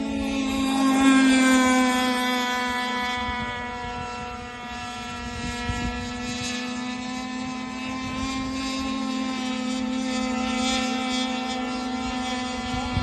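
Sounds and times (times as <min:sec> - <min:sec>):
model boat motor high-pitched: 0:00.0 - 0:13.0.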